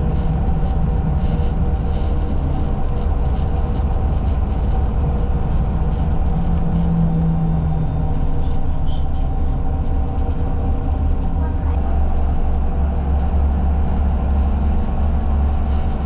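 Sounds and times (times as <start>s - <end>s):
bus engine and road rumble: 0.0s - 16.0s
low drone: 0.0s - 16.0s.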